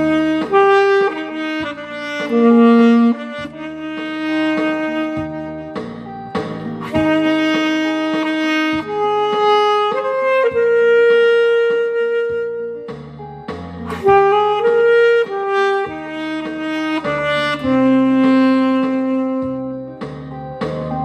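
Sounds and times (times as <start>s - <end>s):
alto saxophone melody: 0.0s - 21.0s
backing accompaniment track: 0.0s - 21.0s.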